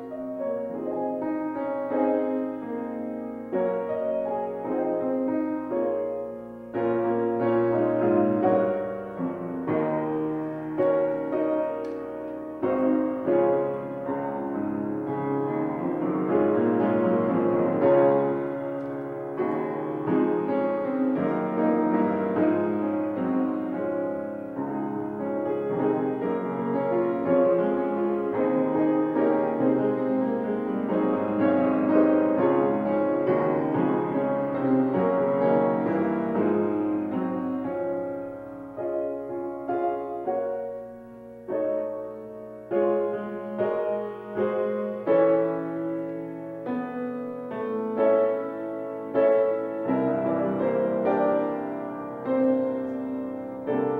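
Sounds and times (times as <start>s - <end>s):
slow chordal piano piece: 0.0s - 53.9s.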